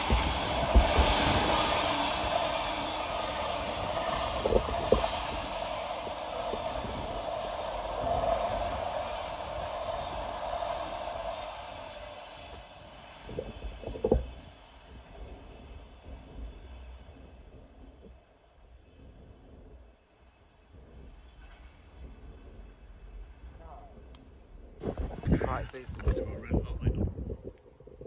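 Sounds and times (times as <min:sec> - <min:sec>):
freight train wagons rolling: 0:00.0 - 0:24.5.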